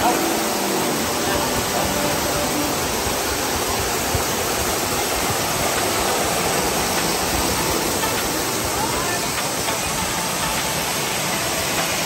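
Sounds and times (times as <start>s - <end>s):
water running over stones: 0.0s - 12.0s
waterfall falling onto rock: 0.0s - 12.0s.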